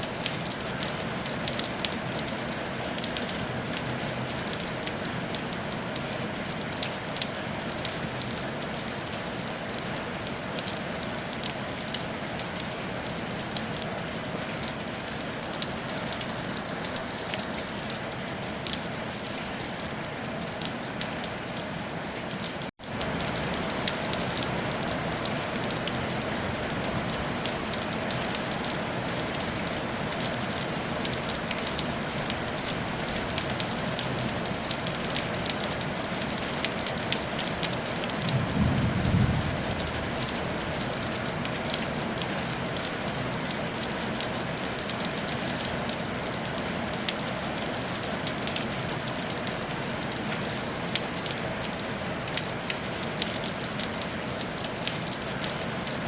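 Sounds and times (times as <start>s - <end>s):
rain on a tile roof: 0.0s - 56.0s.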